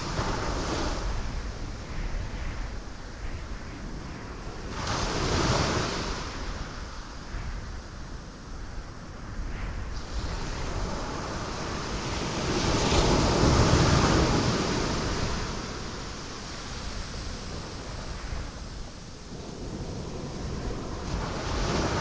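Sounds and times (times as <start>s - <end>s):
ocean waves breaking on rocks: 0.0s - 8.0s, 9.2s - 22.0s.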